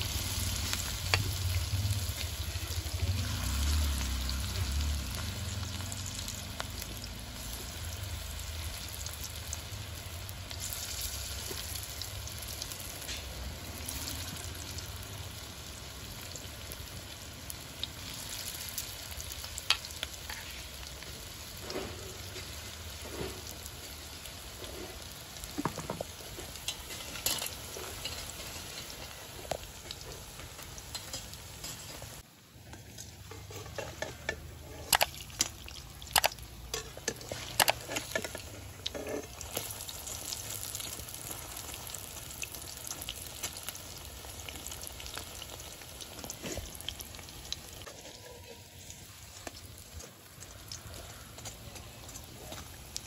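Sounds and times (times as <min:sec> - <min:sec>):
fritters sizzling in hot oil: 0:00.0 - 0:53.0.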